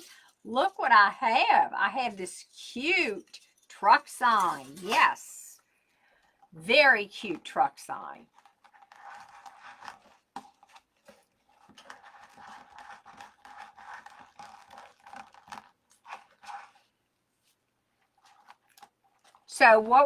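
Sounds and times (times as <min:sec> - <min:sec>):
rustling of craft materials: 0:02.0 - 0:20.0.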